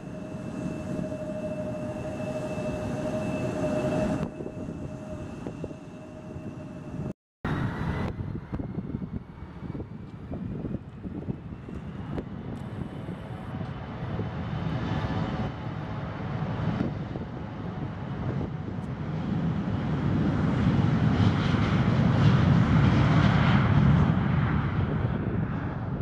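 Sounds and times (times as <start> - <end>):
engine whine with high tones: 0.0 - 23.0
jet engines at takeoff power: 0.0 - 26.0.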